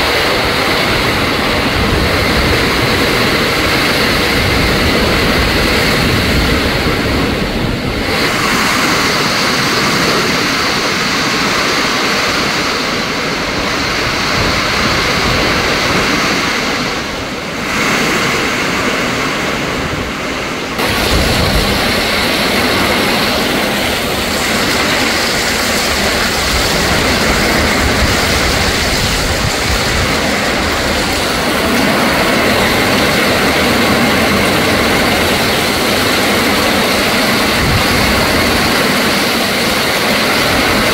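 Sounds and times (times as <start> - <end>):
rain: 0.0 - 40.9
storm wind gusting through trees: 0.0 - 40.9
wind buffeting microphone: 0.0 - 40.9.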